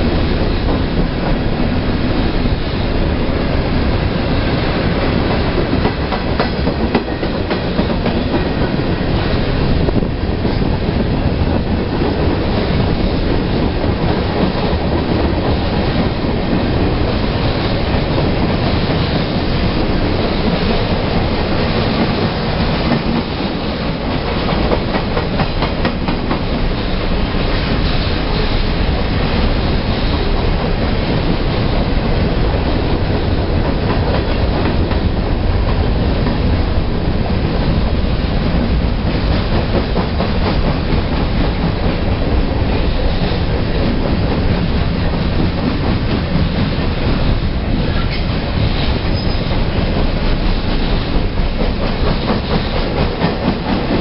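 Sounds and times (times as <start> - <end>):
freight train cars rolling past: 0.0 - 54.0
steel wheels clattering over rail joints: 0.0 - 54.0.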